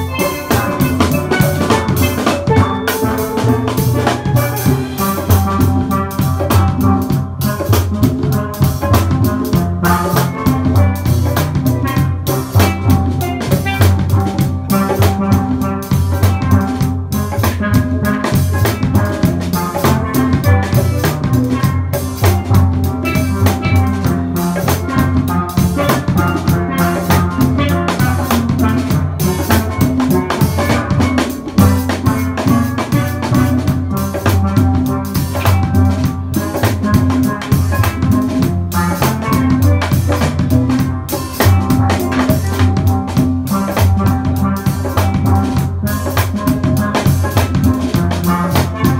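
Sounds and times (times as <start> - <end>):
pitched melody line: 0.0 - 48.9
steady drum beat: 0.0 - 48.9.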